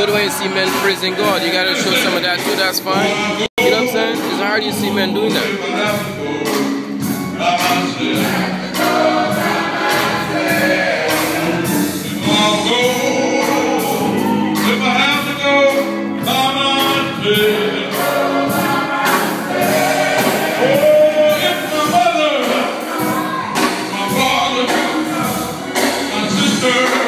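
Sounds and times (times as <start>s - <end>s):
group gospel singing: 0.0s - 4.6s, 5.3s - 27.0s
steady beat: 0.0s - 27.0s.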